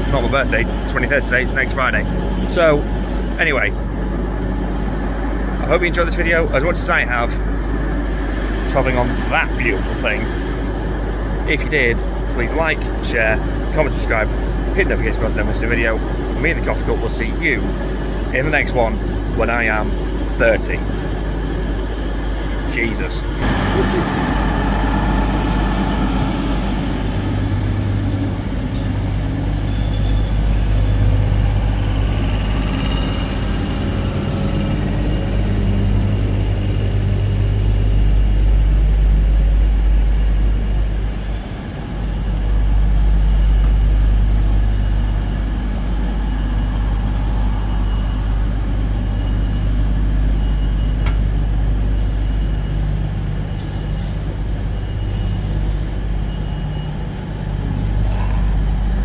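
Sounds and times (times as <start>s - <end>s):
diesel train engines idling: 0.0s - 59.0s.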